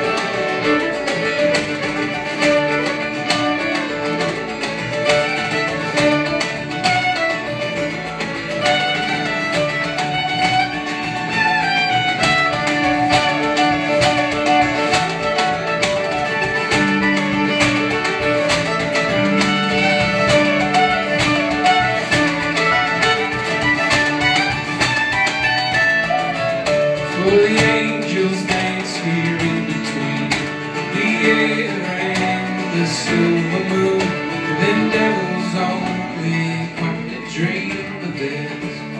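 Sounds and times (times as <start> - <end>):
acoustic guitar strumming: 0.0 - 38.9
fiddle: 0.0 - 38.9
mandolin: 0.0 - 38.9.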